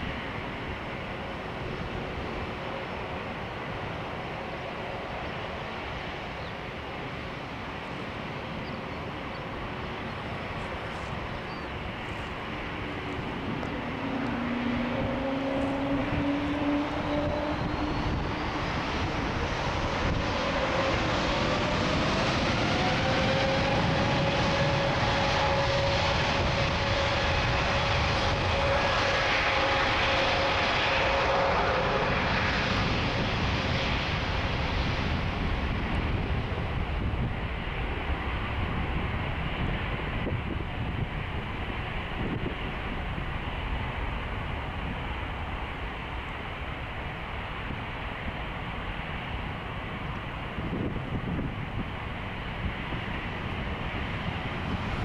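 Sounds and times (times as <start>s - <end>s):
jet engines running: 0.0s - 55.0s
rising engine whine: 0.0s - 55.0s.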